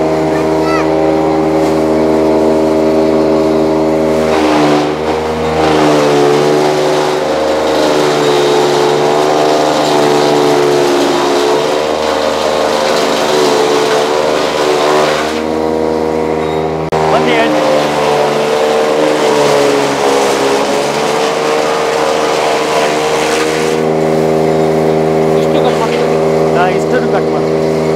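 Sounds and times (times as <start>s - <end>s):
chaff cutter motor hum: 0.0s - 27.9s
rasping chopping of grass: 1.4s - 16.0s, 17.0s - 26.8s.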